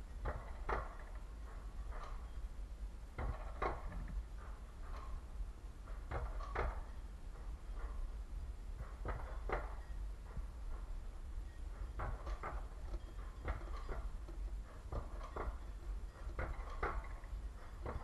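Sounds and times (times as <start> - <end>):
sled rumbling on metal rail: 0.0 - 18.0.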